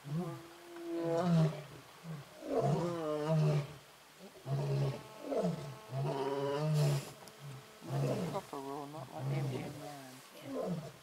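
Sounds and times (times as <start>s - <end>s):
animal hiss: 0.0s - 11.0s.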